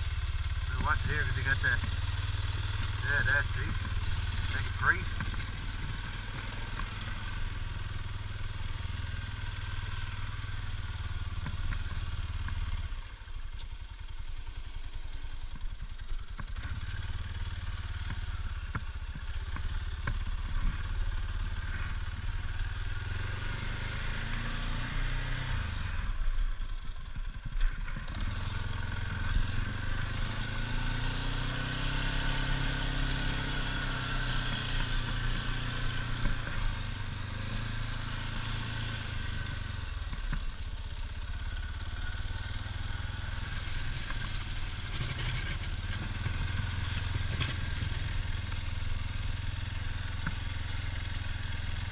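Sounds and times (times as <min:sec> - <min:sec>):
atv engine droning under load: 0:00.0 - 0:51.9.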